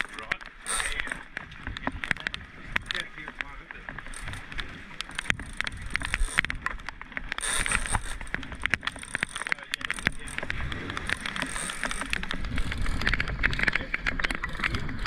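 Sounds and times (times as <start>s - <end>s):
outboard motor rumble: 0.0s - 15.0s
sharp clicks and knocks: 0.0s - 15.0s
water washing along hull: 0.0s - 15.0s.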